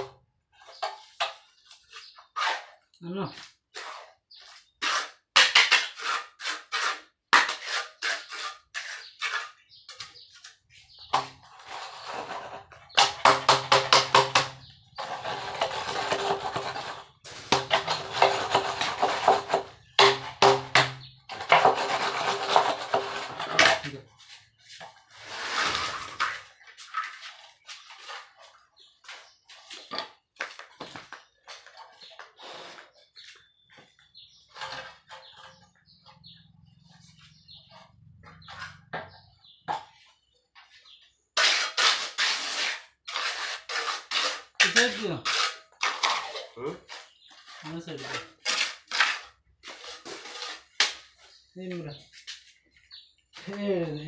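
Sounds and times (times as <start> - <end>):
board scraping wet cement: 0.7 - 33.6, 34.2 - 36.4, 40.8 - 51.4.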